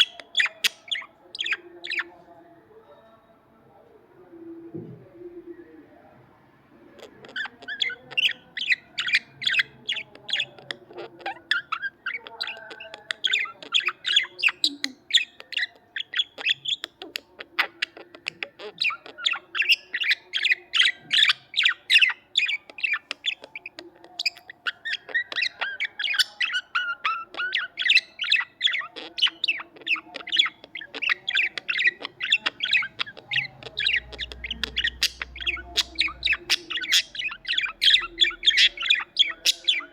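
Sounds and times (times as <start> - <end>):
budgerigars chirping and warbling: 0.0 - 2.3, 6.8 - 39.9.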